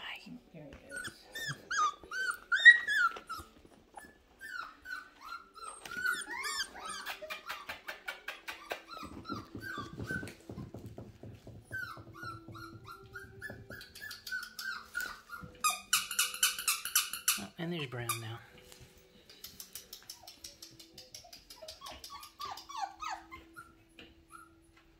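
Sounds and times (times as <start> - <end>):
puppy whimpering: 0.8 - 10.8, 11.7 - 18.4, 20.1 - 24.8.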